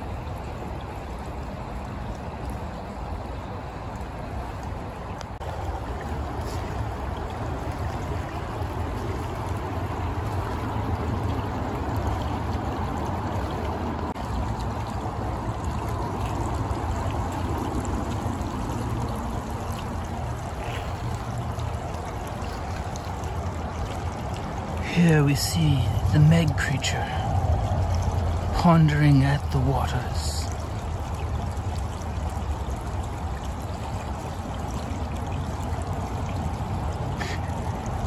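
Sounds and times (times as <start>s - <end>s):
creek water rushing over gravel: 0.0s - 38.0s.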